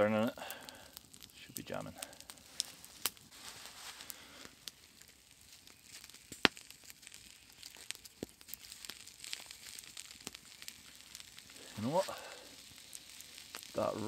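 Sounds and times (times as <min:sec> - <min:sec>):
campfire crackling and popping: 0:00.0 - 0:14.0
sharp fire crack: 0:00.0 - 0:14.0.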